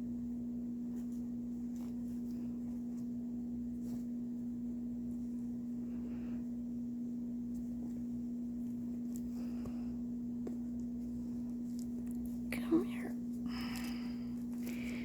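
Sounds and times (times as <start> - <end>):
low electrical hum: 0.0 - 15.0
soft rustling handling noises: 0.2 - 15.0.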